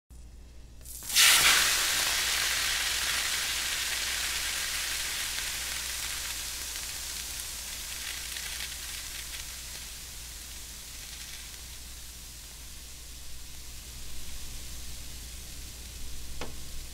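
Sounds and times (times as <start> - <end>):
water sizzling into steam: 0.8 - 16.9.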